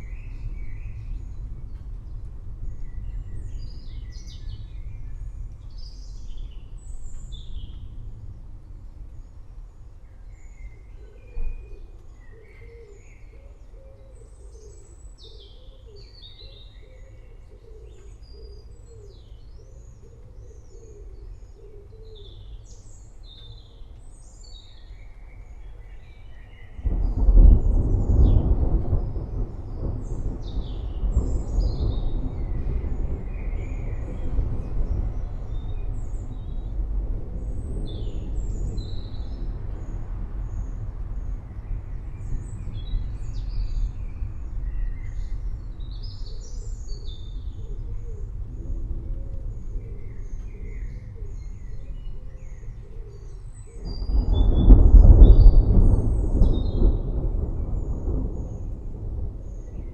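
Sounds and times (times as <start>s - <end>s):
forest birds chirping: 0.0s - 59.9s
low rumble of thunder: 0.0s - 59.9s.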